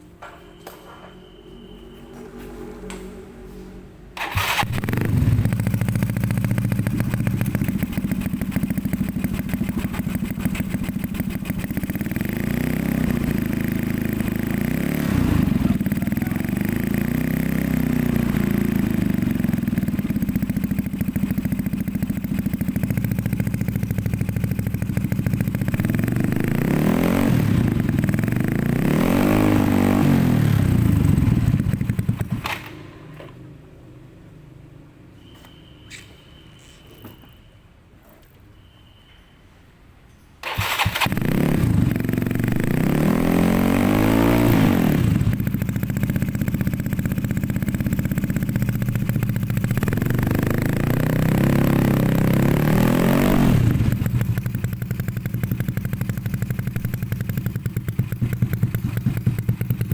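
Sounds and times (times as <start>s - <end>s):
scooter engine revving: 4.2s - 33.3s, 40.4s - 59.9s.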